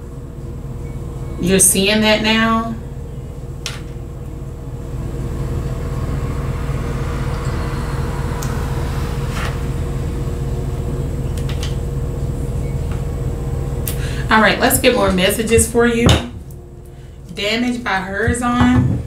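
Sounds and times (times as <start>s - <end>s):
appliance humming and whining: 0.0s - 19.0s.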